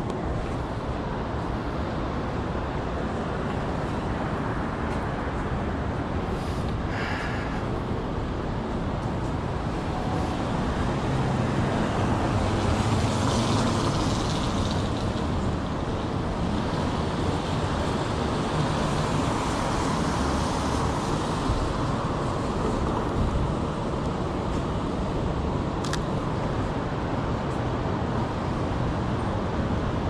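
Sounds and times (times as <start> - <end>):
city traffic: 0.0 - 30.0.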